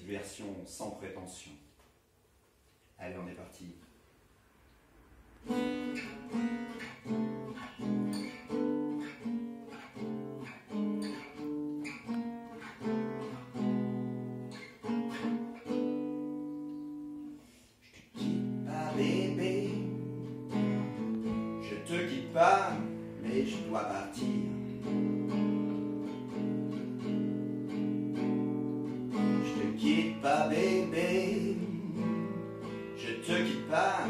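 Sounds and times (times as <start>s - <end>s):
acoustic guitar blues: 5.4s - 34.0s.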